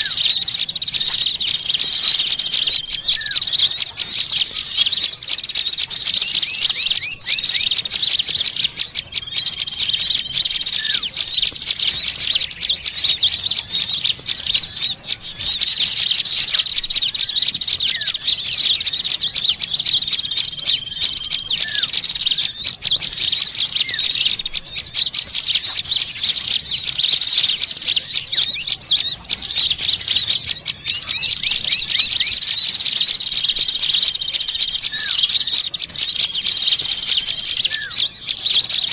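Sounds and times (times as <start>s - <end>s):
songbirds chattering and chirping: 0.0s - 38.9s.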